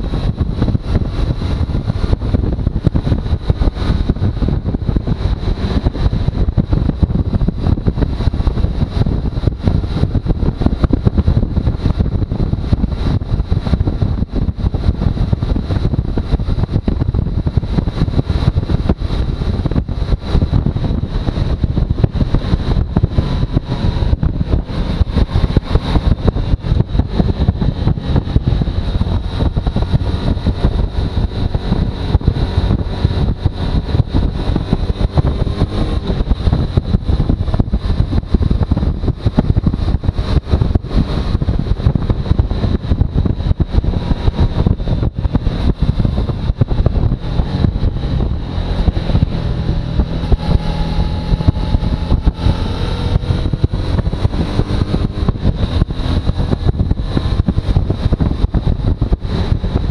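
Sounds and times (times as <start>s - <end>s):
motorcycle engine rumble: 0.0s - 59.9s
wind buffeting microphone: 0.0s - 59.9s.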